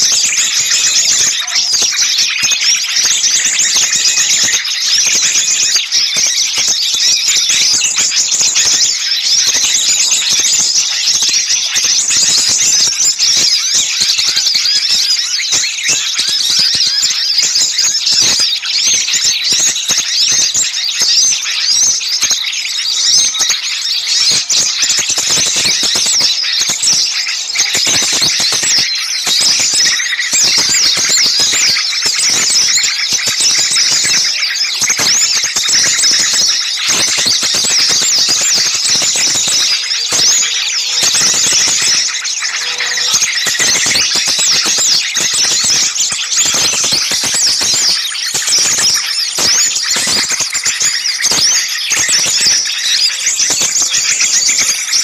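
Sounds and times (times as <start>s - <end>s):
flock of songbirds chattering: 0.0s - 55.0s.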